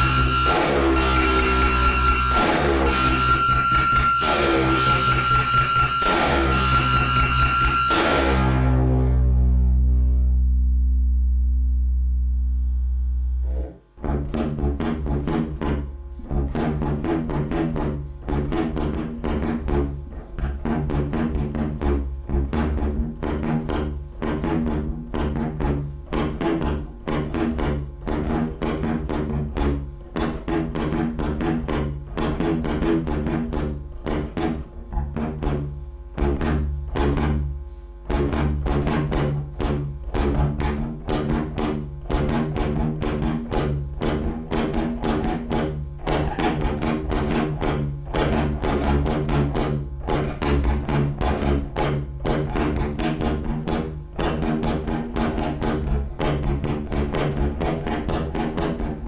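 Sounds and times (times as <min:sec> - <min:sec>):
electric guitar drone: 0:00.0 - 0:59.0.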